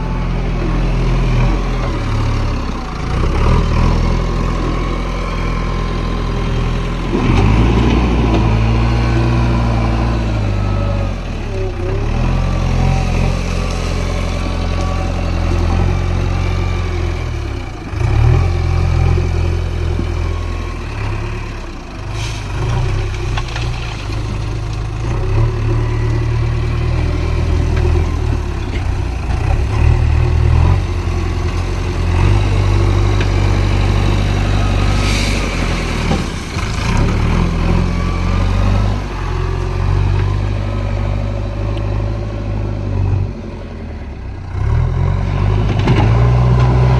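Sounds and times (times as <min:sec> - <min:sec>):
diesel engine under load: 0:00.0 - 0:46.9.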